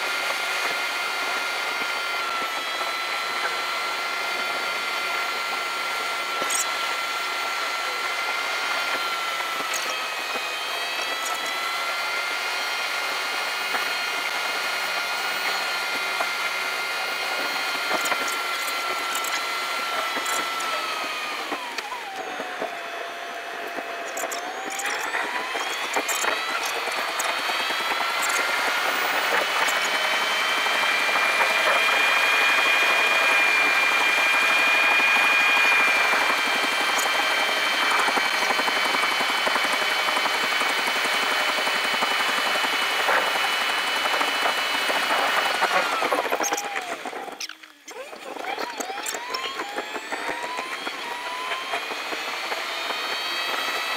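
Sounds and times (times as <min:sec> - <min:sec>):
sped-up car engine whine: 0:00.0 - 0:53.9.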